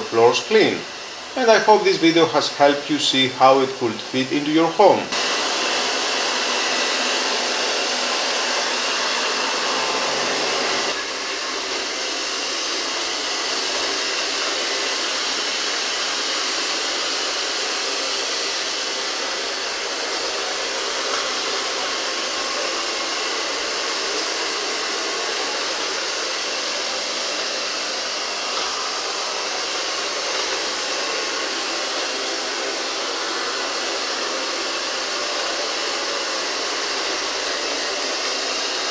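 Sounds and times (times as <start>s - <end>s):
robot vacuum cleaner running: 0.0s - 38.9s.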